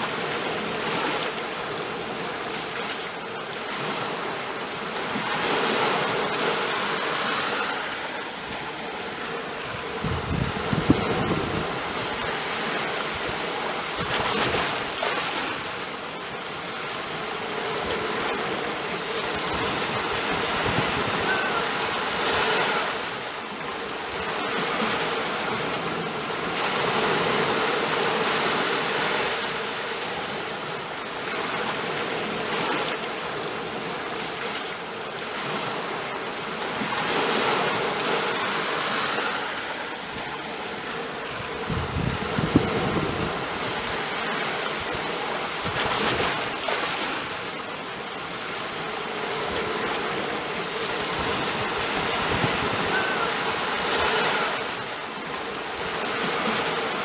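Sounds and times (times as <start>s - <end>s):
sea waves washing: 0.0s - 57.0s.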